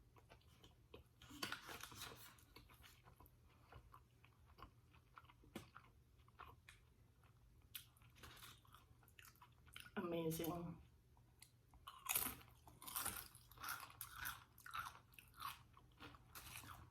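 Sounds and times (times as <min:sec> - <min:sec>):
chewing with crisp crunches: 0:00.0 - 0:10.0, 0:10.8 - 0:16.9.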